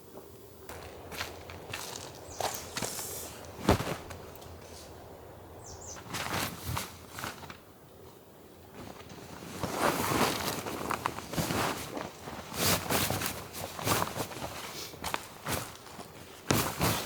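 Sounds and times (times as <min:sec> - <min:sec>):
footsteps crunching on ground: 0:00.0 - 0:17.0.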